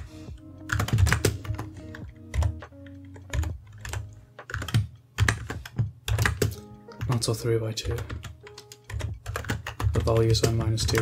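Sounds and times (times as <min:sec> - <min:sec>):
background music with held notes: 0:00.0 - 0:11.0
typing on computer keyboard: 0:00.6 - 0:11.0.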